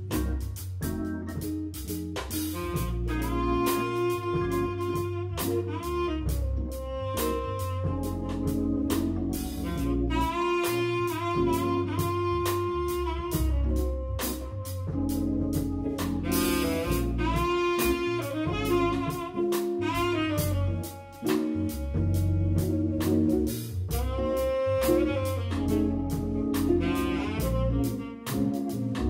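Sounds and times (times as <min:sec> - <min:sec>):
drum kit: 0:00.0 - 0:29.0
guitar: 0:00.0 - 0:29.0
hammond organ: 0:00.0 - 0:29.0
tenor saxophone: 0:02.2 - 0:29.0.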